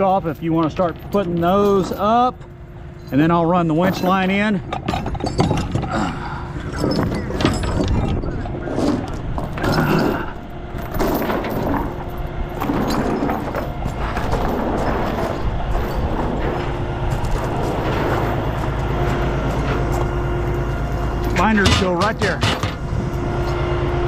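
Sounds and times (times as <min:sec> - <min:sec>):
chains rattling and clanking: 0:00.0 - 0:23.5
diesel engine idling: 0:00.0 - 0:24.0.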